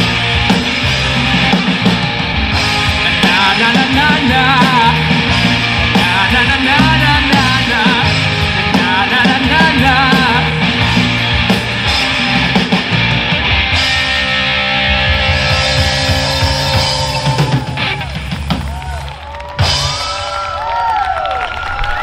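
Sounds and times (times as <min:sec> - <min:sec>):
wavering lead melody: 0:00.0 - 0:18.0
live rock band playing: 0:00.0 - 0:20.5.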